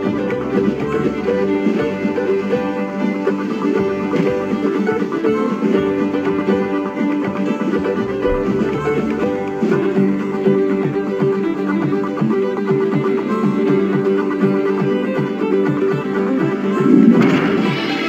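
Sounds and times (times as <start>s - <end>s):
bluegrass banjo and guitar music: 0.0s - 18.0s.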